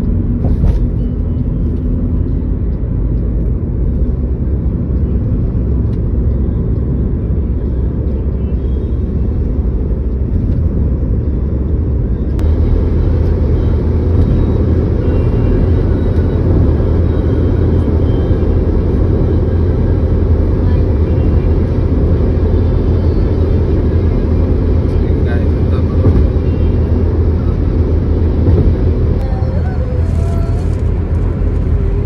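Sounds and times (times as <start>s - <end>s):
engine and road noise rumble: 0.0s - 32.0s.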